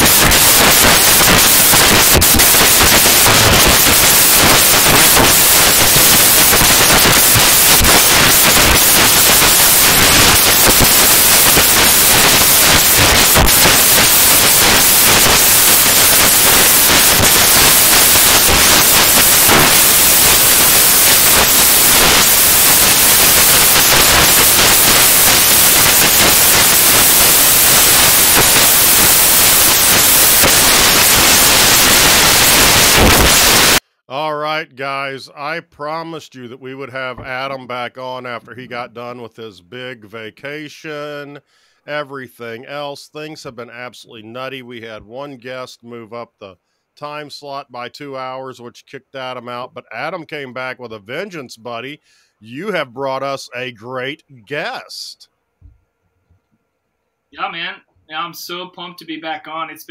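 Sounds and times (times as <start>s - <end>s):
static-like hiss: 0.0s - 59.9s.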